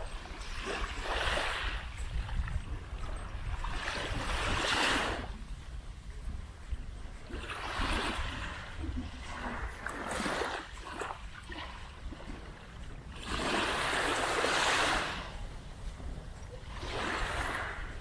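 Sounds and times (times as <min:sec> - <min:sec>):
small waves washing ashore: 0:00.0 - 0:18.0.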